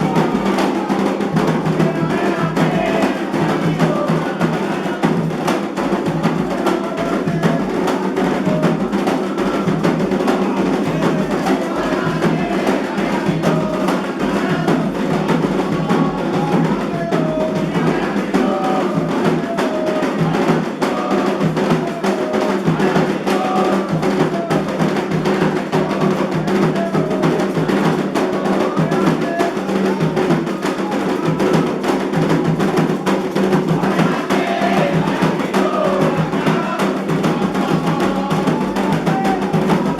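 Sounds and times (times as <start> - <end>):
hand drums playing fast rhythm: 0.0 - 39.9
voices singing: 0.0 - 39.9.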